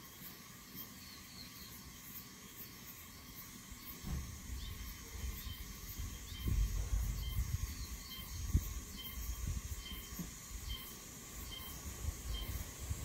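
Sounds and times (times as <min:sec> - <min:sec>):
bird chirps: 0:00.0 - 0:12.8.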